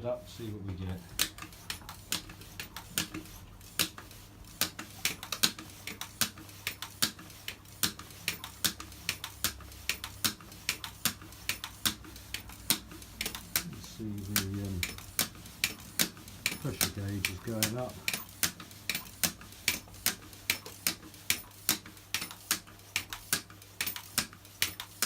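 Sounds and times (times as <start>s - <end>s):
hand tyre pump clicking: 1.2s - 25.0s.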